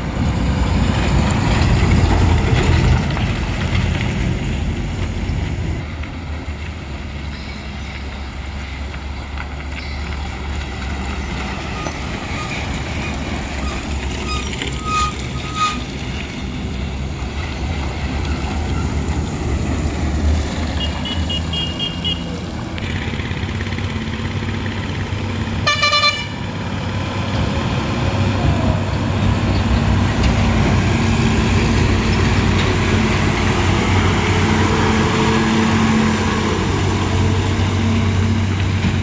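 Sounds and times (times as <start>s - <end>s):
diesel trucks passing: 0.0s - 39.0s.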